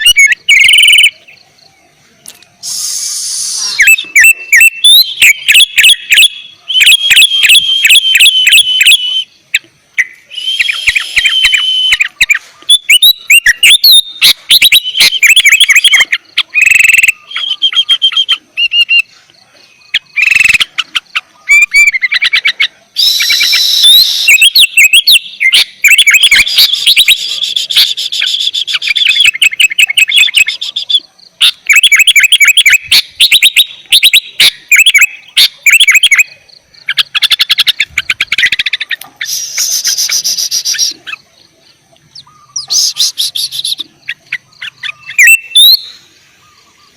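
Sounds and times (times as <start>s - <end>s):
bird singing sharp chirps: 0.0s - 19.1s, 23.0s - 46.9s.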